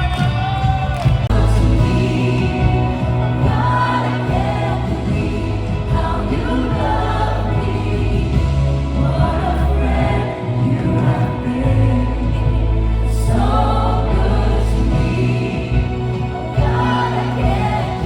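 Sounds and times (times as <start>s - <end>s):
choir singing gospel song: 0.0s - 18.0s
steady bass: 0.0s - 18.0s.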